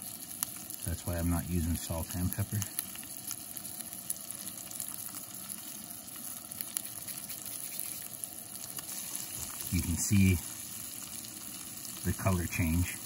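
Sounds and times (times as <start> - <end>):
fish frying in butter: 0.0 - 13.0.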